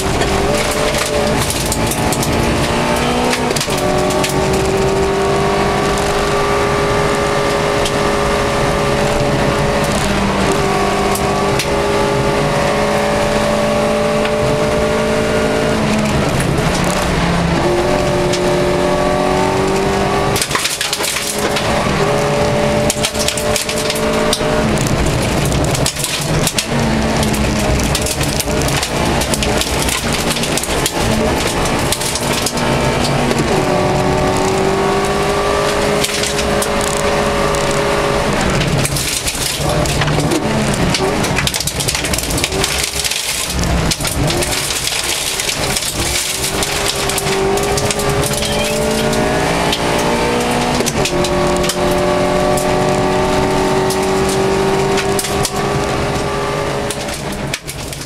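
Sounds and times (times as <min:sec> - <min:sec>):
car engine revving: 0:00.0 - 0:58.0
gravel under tyres: 0:00.0 - 0:58.0.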